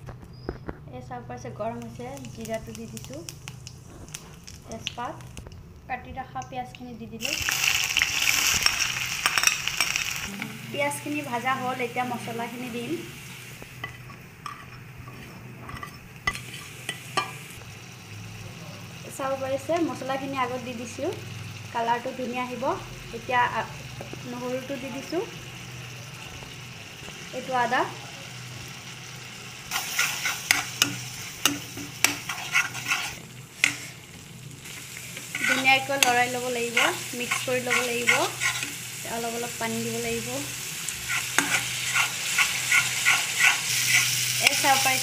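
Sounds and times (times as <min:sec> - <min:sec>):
spices sizzling in oil: 0:00.3 - 0:45.0.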